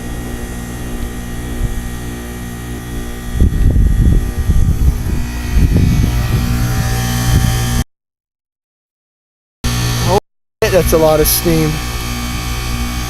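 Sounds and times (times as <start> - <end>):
heat pump humming: 0.0 - 7.8, 9.7 - 13.0.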